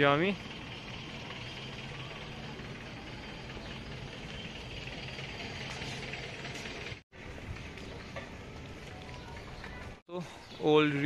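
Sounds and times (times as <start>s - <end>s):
vehicle engine idling: 0.0s - 9.4s.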